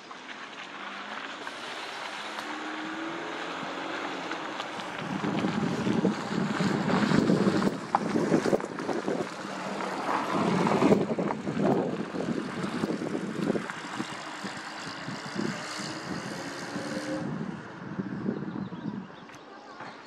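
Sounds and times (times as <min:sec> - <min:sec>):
distant engine drone: 0:01.0 - 0:20.0
wind buffeting microphone: 0:01.5 - 0:19.4.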